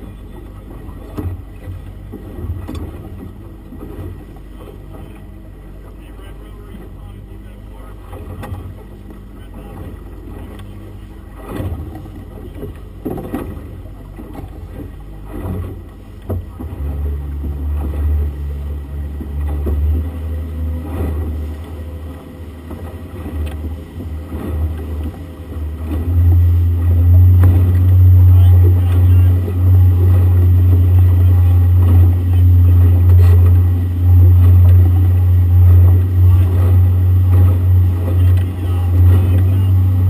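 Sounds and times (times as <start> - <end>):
outboard motor running: 0.0 - 40.0
wind and water rushing: 0.0 - 40.0.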